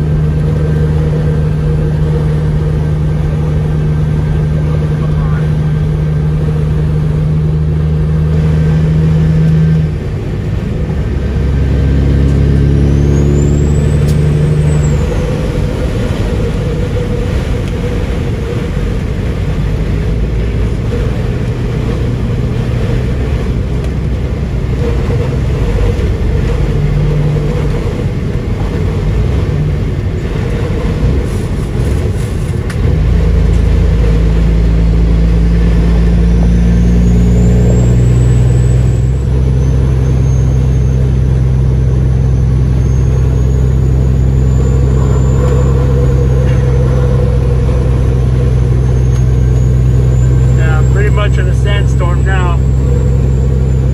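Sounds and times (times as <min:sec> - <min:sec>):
truck diesel engine running: 0:00.0 - 0:53.9
wind and road noise: 0:00.0 - 0:53.9.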